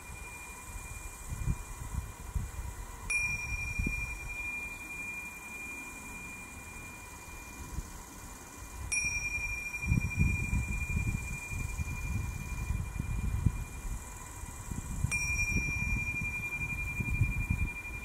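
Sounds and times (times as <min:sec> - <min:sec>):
small hand cymbals ringing: 0:00.0 - 0:18.0.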